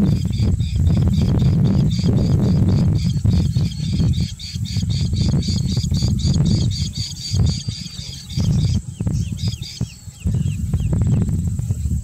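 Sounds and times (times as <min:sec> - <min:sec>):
downward-slurred bird calls: 0:00.0 - 0:11.3
terns chattering calls: 0:00.0 - 0:12.0.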